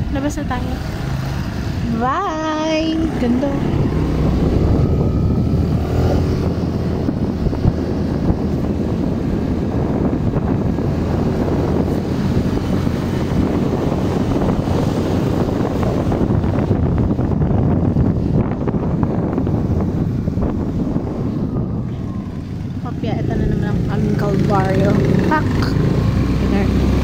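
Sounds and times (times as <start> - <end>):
motorcycle engine: 0.0 - 27.0
road noise: 0.0 - 27.0
wind rush on microphone: 0.0 - 27.0.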